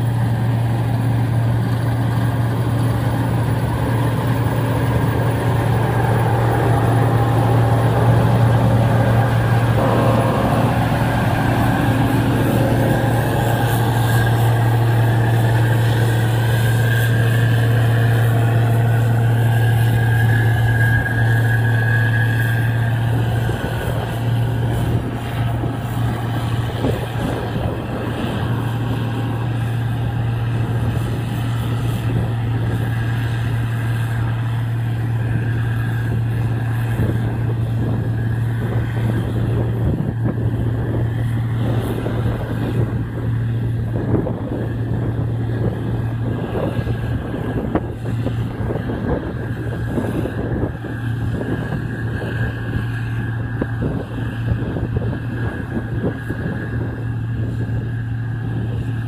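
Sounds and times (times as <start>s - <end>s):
combine harvester engine droning: 0.0s - 59.0s.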